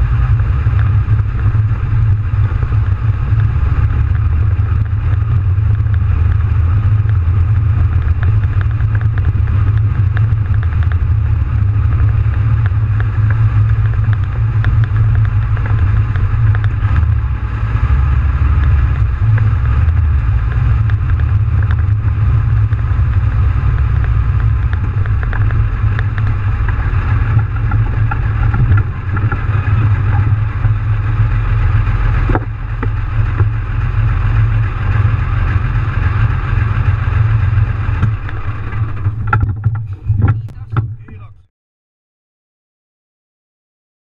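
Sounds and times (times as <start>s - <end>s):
diesel engine droning: 0.0s - 41.5s.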